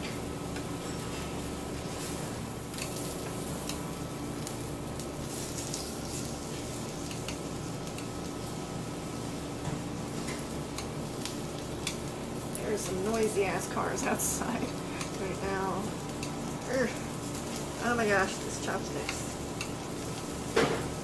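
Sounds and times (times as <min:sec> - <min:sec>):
vegetables frying in oil: 0:00.0 - 0:21.0.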